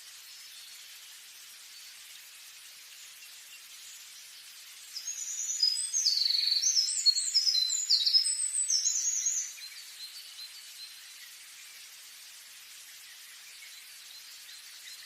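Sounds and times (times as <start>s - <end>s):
background hiss: 0.0s - 15.0s
songbird singing: 0.0s - 15.0s.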